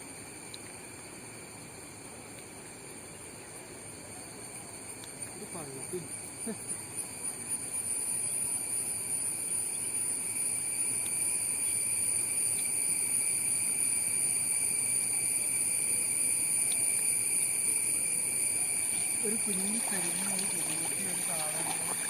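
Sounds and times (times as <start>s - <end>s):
insects droning: 0.0s - 22.0s
low outdoor hiss: 0.0s - 22.0s.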